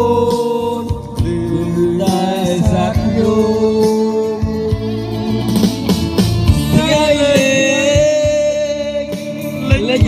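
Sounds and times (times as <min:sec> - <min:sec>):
instrumental backing: 0:00.0 - 0:10.0.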